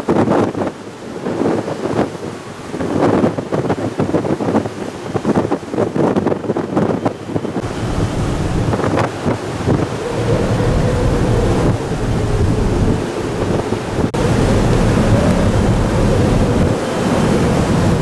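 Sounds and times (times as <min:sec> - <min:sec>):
strong wind buffeting microphone: 0:00.0 - 0:18.0
water rushing: 0:00.0 - 0:18.0.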